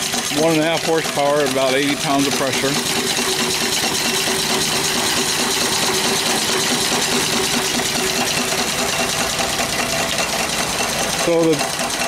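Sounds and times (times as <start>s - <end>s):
steam engine chuffing: 0.0s - 12.0s.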